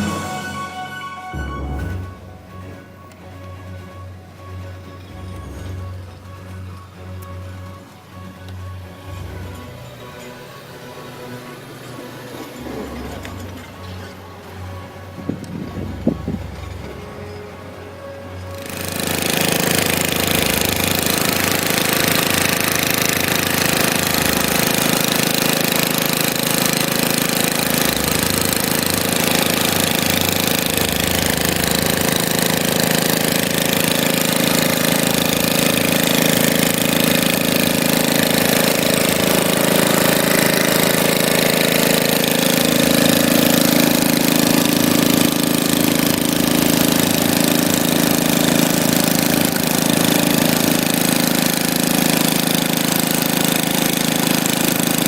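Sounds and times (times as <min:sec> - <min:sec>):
engine running steadily: 0:01.4 - 0:55.0.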